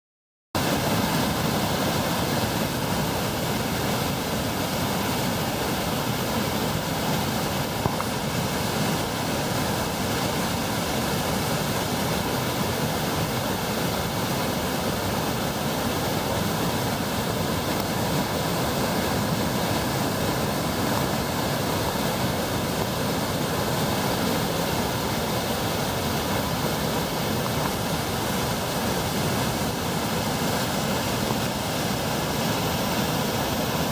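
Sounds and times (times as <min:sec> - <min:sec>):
waterfall rushing: 0:00.6 - 0:33.9.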